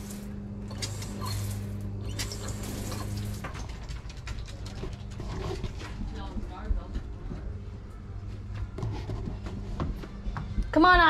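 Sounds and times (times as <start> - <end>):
water plumbing humming: 0.0 - 11.0.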